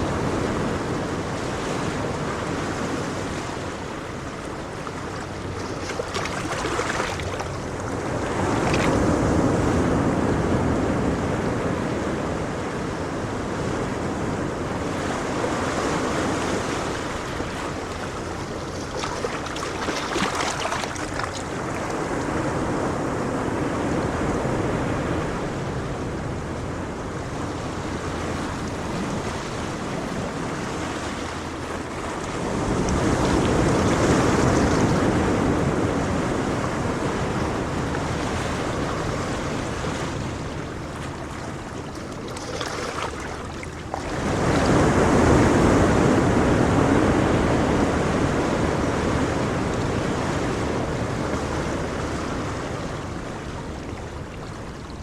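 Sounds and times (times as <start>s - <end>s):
ocean waves on shore: 0.0s - 55.0s.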